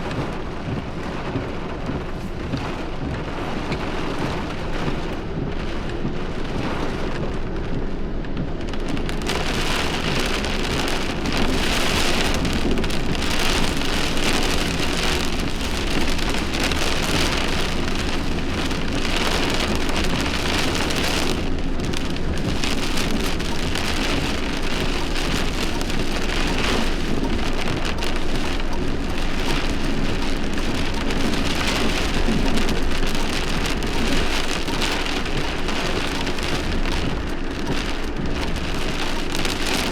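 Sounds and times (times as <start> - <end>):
heavy rain pouring: 0.0 - 39.9
low rumble of thunder: 0.0 - 39.9.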